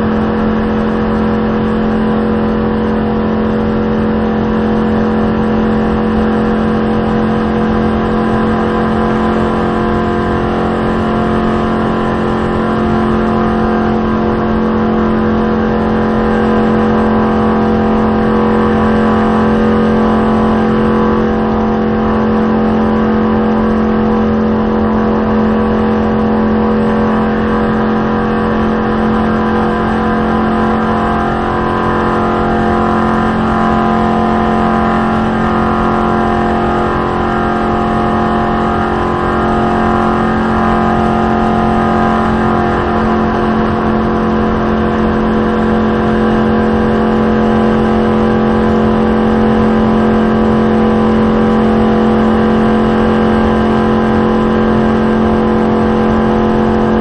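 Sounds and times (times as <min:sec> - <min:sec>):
race car engine running: 0:00.0 - 0:57.0
road and wind noise: 0:00.0 - 0:57.0.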